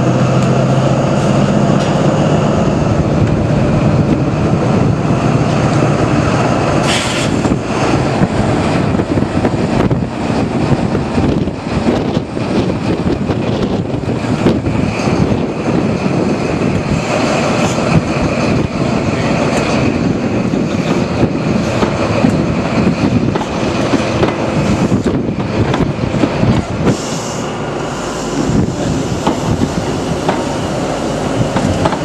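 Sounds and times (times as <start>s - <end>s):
train coaches clicking: 0.0s - 32.0s
train rumbling past: 0.0s - 32.0s.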